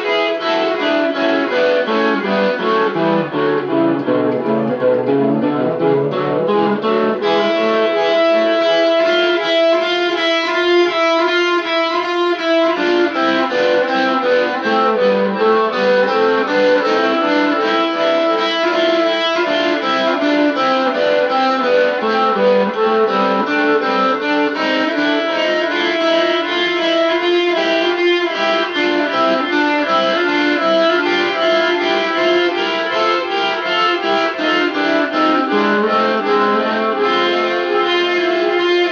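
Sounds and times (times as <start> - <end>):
rock guitar solo: 0.0 - 38.9.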